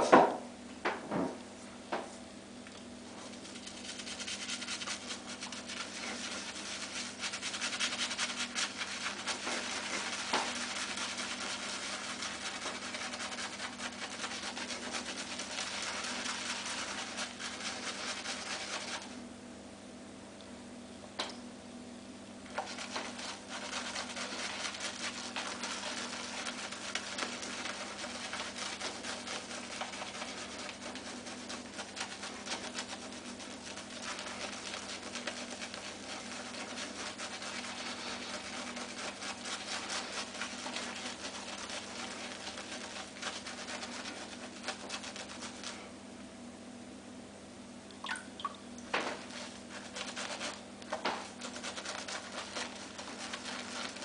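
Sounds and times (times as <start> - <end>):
steady low hum: 0.4 - 54.0
shaving brush lathering on face: 3.2 - 19.2, 22.5 - 45.9, 48.9 - 54.0.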